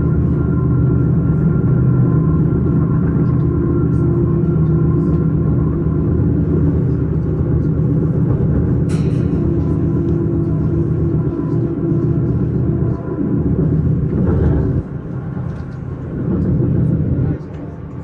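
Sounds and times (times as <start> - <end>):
faint whine: 0.0 - 18.0
train rumbling: 0.0 - 18.0.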